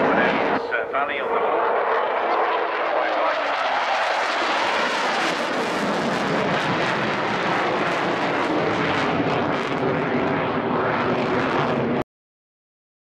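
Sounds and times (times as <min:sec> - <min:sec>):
jet engines in afterburner: 0:00.0 - 0:12.0.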